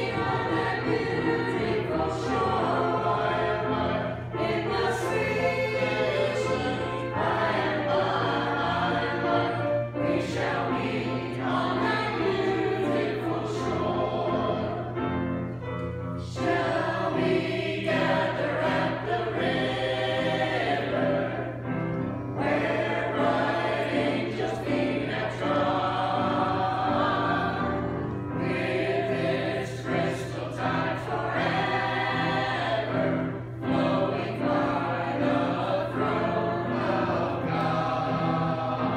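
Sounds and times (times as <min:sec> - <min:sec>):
choir singing: 0:00.0 - 0:15.6, 0:16.2 - 0:38.9.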